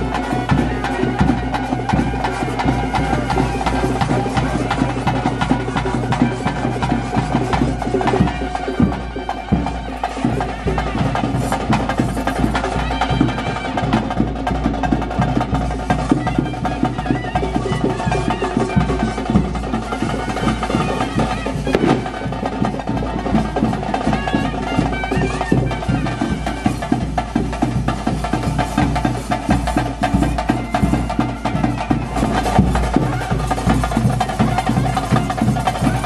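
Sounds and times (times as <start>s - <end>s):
fast drumming: 0.0s - 36.0s.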